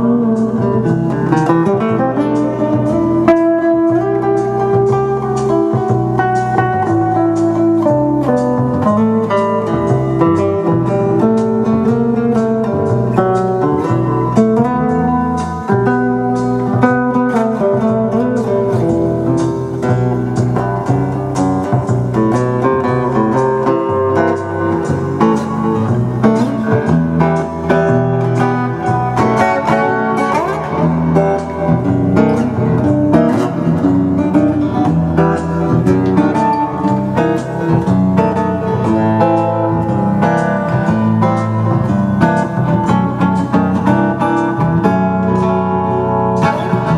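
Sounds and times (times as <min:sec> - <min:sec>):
bass line: 0:00.0 - 0:46.9
guitar plucking notes: 0:00.0 - 0:46.9.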